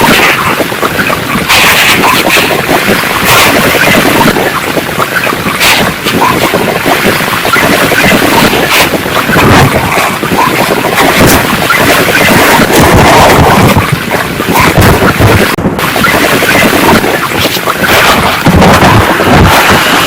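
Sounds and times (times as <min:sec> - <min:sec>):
gusting storm wind: 0:00.0 - 0:20.0
torrential rain: 0:00.0 - 0:20.0
wind buffeting microphone: 0:00.0 - 0:20.0.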